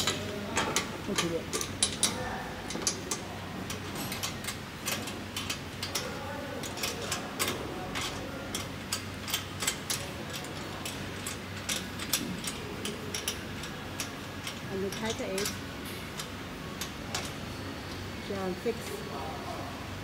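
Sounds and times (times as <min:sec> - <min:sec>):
light clicks of metal parts: 0:00.0 - 0:18.1
steady low hum: 0:00.0 - 0:20.0.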